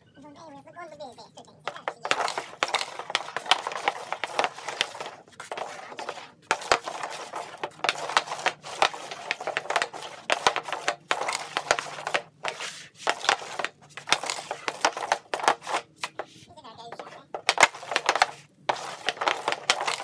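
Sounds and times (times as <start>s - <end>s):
hockey stick clacking on concrete: 1.6s - 20.0s.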